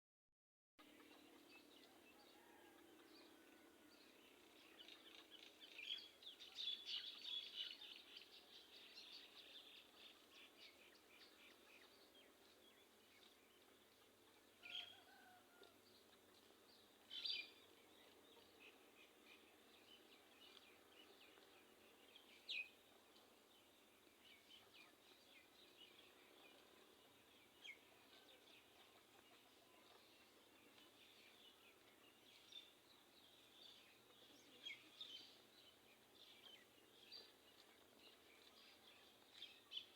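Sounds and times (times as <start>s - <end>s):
faint bird chirping: 0.8s - 39.9s.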